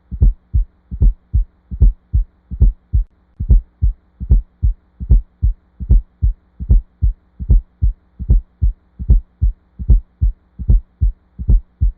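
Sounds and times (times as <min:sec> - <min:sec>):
faint steady hum: 0:00.0 - 0:11.9
heartbeat thuds: 0:00.0 - 0:11.9.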